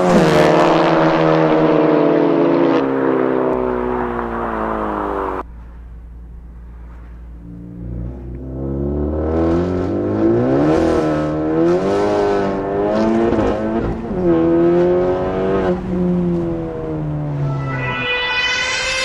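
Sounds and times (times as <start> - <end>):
car engine accelerating hard: 0.0 - 5.5, 6.6 - 19.0.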